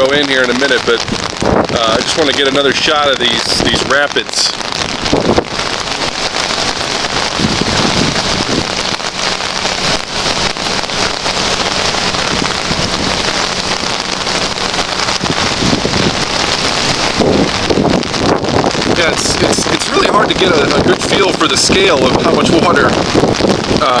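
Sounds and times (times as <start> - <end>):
creek rushing in rapids: 0.0 - 24.0
heavy rain hissing: 0.0 - 24.0.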